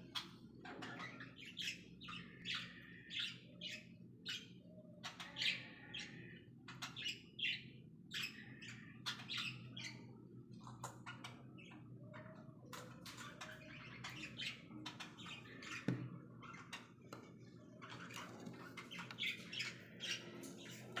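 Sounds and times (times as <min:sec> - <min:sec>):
cockatiels chirping: 0:00.0 - 0:21.0.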